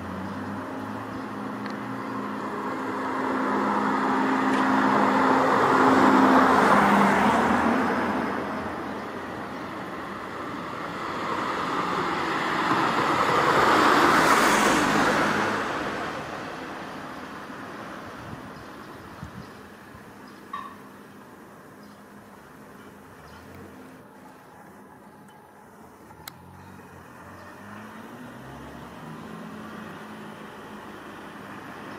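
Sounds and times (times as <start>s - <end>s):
road vehicles passing: 0.0s - 31.9s.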